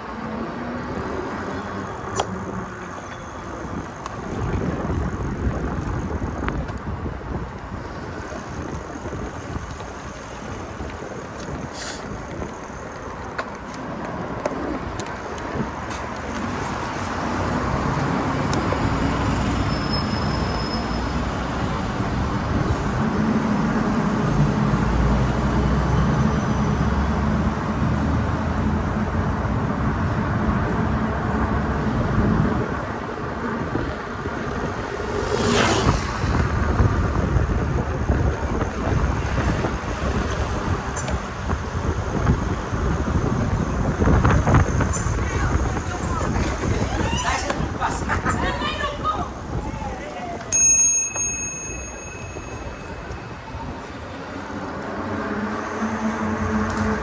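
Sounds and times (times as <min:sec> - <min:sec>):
wind rushing over microphone: 0:00.0 - 0:50.5
bicycle road noise: 0:00.0 - 0:57.0.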